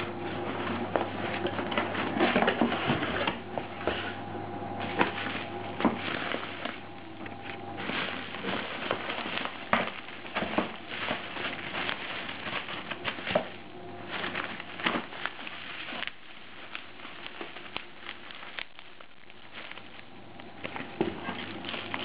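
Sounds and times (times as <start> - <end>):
bubble wrap crinkling and crackling: 0.0 - 22.0.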